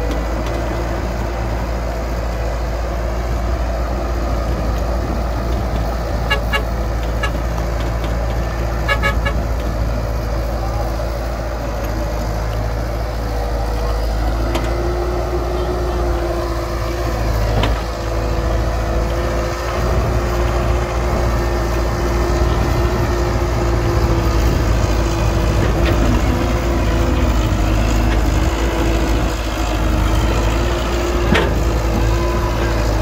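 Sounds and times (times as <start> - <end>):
diesel machinery droning: 0.0 - 33.0.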